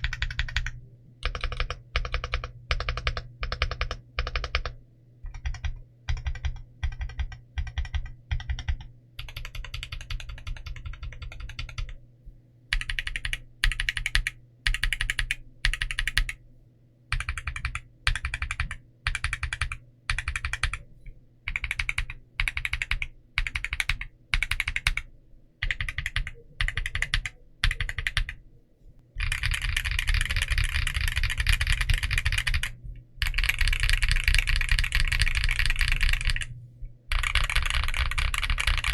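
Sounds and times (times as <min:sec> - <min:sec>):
typing on mechanical keyboard: 0:00.0 - 0:12.0, 0:12.7 - 0:16.4, 0:17.1 - 0:20.8, 0:21.5 - 0:28.4, 0:29.2 - 0:36.5, 0:37.1 - 0:38.9.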